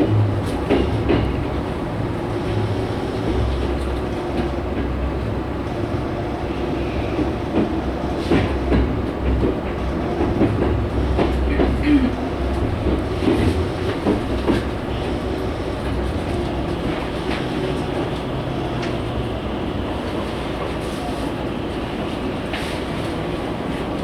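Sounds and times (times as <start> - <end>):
train low rumble: 0.0 - 24.0.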